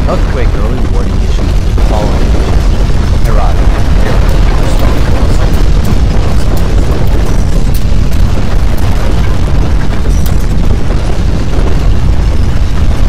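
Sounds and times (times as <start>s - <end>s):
deep earthquake rumble: 0.0s - 13.0s.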